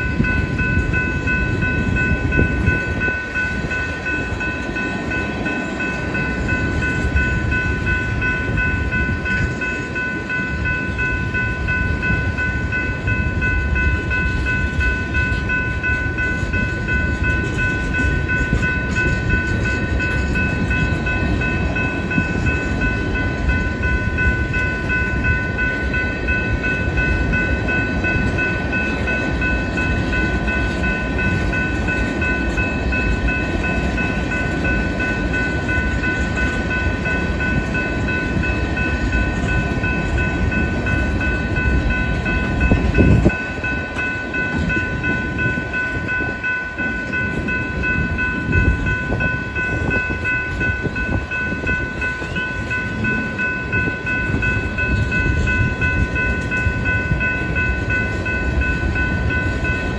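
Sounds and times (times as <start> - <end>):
crossing bell ringing: 0.0 - 59.9
train wheels rattling on rails: 0.0 - 59.9.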